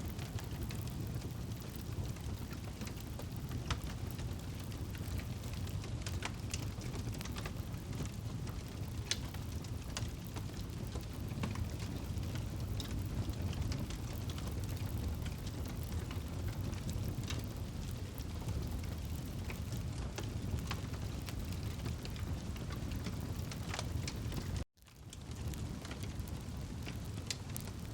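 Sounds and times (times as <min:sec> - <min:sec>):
burning wood crackling and popping: 0:00.0 - 0:27.9
campfire flames roaring: 0:00.0 - 0:27.9.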